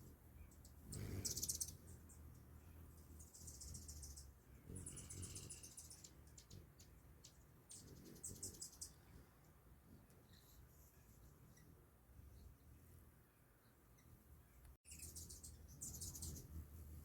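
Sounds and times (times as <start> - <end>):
hummingbird chittering: 0.0 - 14.2, 14.9 - 17.0.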